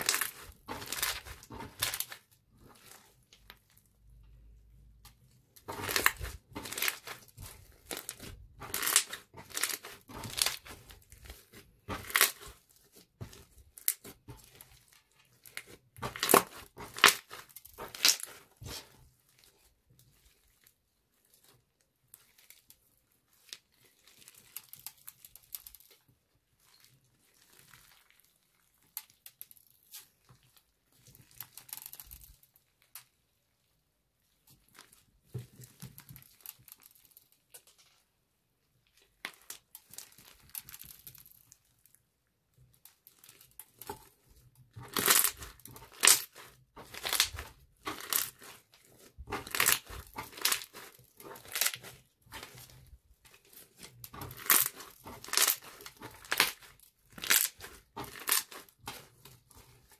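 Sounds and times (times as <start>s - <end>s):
slime crackling and popping: 0.0s - 38.0s, 38.8s - 59.9s.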